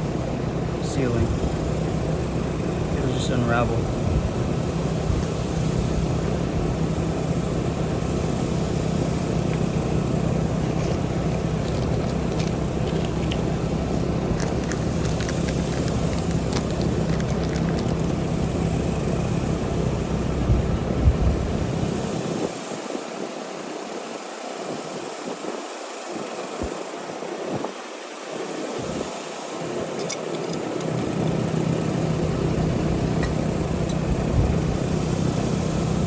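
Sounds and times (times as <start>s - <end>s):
mechanical drone with low hum: 0.0s - 23.9s, 28.4s - 36.0s.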